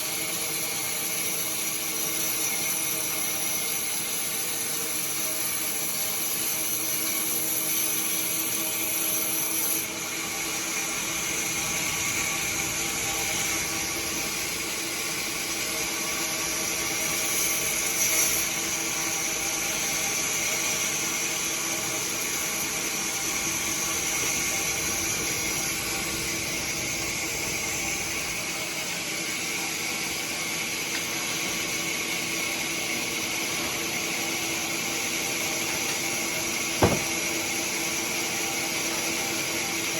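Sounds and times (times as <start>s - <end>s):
sawmill machinery hissing and humming: 0.0s - 39.9s.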